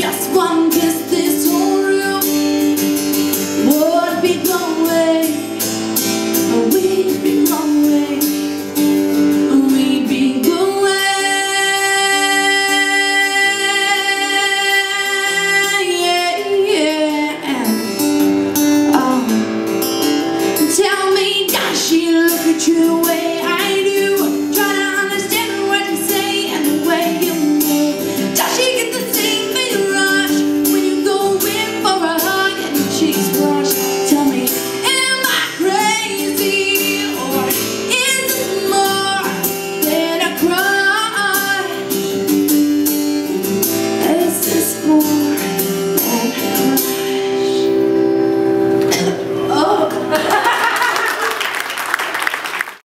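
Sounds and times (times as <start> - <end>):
woman singing: 0.0 - 18.1, 18.8 - 19.6, 20.6 - 48.0
strummed acoustic guitar: 0.0 - 50.4.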